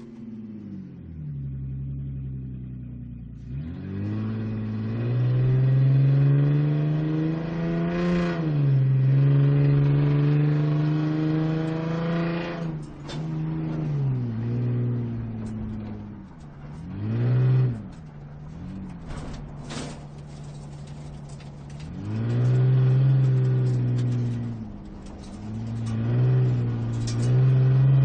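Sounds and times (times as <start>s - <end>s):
sports car engine accelerating: 0.0s - 19.6s, 20.4s - 28.0s.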